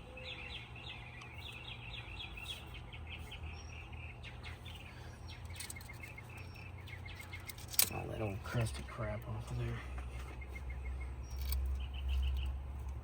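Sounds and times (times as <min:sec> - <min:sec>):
songbird chirping: 0:00.0 - 0:13.0
steady low hum: 0:00.0 - 0:13.0.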